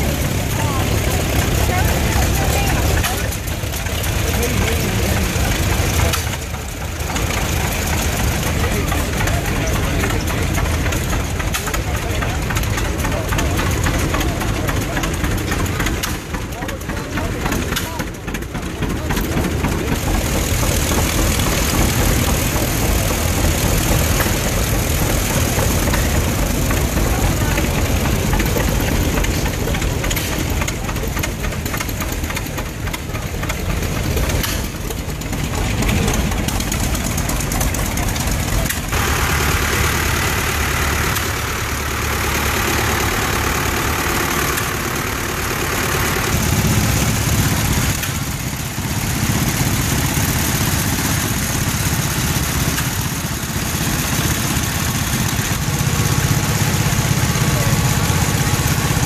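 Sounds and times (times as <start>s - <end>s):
tractor engines passing: 0.0s - 59.0s.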